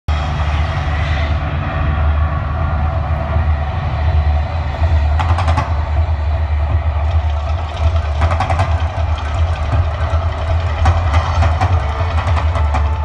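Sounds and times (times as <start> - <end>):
crackling whooshing fire: 0.1 - 13.0
deep steady rumble: 0.1 - 13.0.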